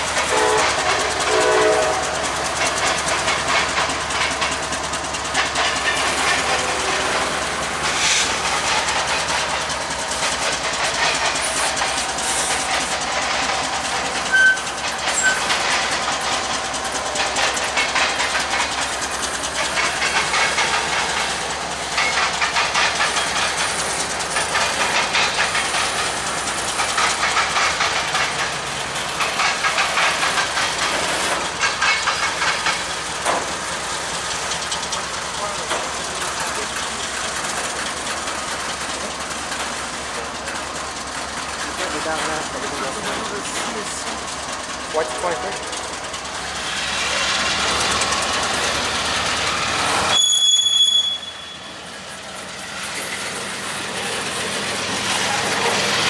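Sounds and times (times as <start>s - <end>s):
wheel-on-rail hiss: 0.0s - 50.2s
train wheels clattering over joints: 0.0s - 56.0s.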